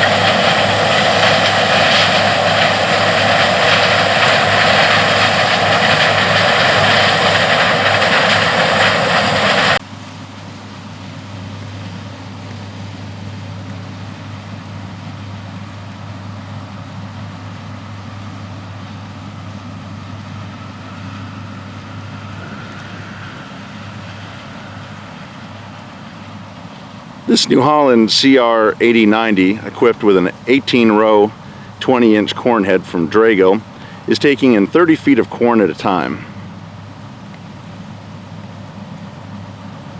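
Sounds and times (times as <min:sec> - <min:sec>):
combine harvester running: 0:00.0 - 0:39.9
low hum: 0:00.0 - 0:39.9.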